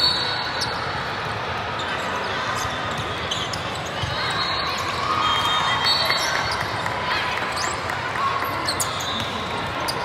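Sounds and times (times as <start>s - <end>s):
echoing chatter of people: 0.0s - 10.0s.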